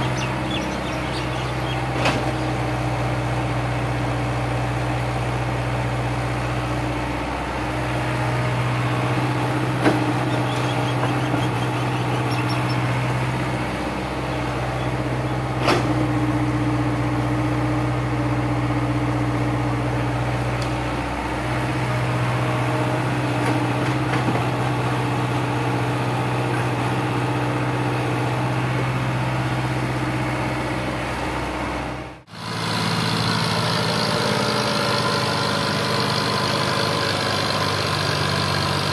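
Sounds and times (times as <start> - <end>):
diesel engines running: 0.0 - 38.9
tractor engine: 0.0 - 38.9.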